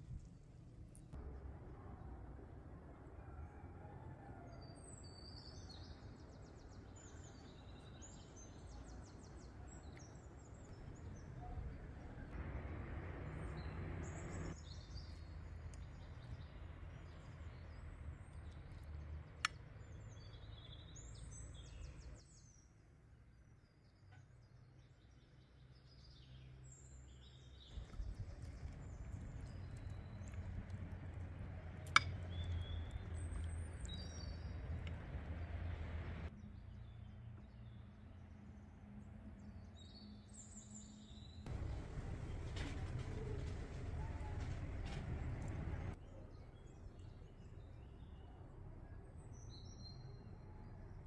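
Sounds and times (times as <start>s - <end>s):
low outdoor rumble: 0.0s - 22.2s, 27.6s - 39.8s, 41.4s - 51.0s
songbirds chirping and trilling: 3.2s - 51.0s.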